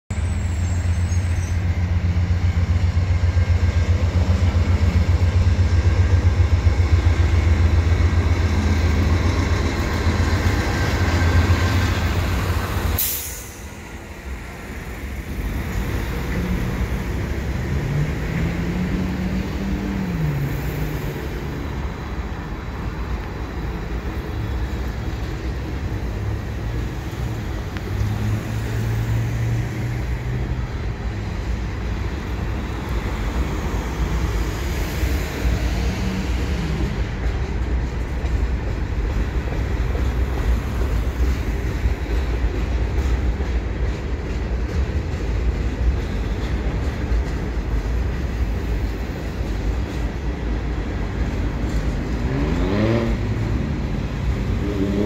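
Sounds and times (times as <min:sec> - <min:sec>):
freight train on bridge: 0:00.1 - 0:55.0
passing vehicles: 0:00.1 - 0:55.0.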